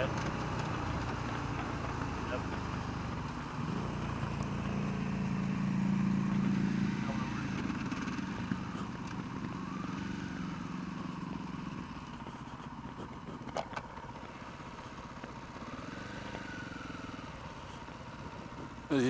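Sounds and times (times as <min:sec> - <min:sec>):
motorcycle engine running low revs: 0:00.0 - 0:19.0.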